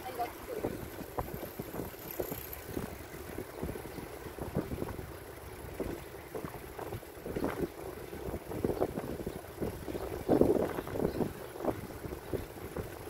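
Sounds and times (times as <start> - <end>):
bicycle road noise: 0.0 - 13.0
wind buffeting microphone: 0.0 - 13.0.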